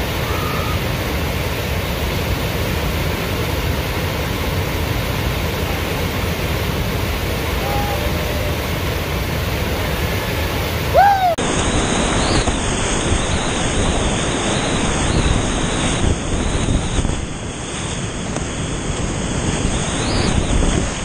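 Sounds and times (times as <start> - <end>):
whitewater rapid rushing: 0.0 - 21.0.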